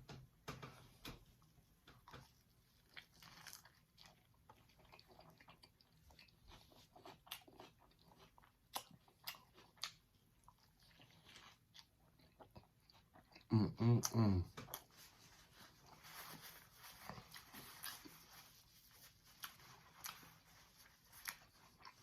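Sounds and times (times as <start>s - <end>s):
person chewing food: 0.6s - 22.0s.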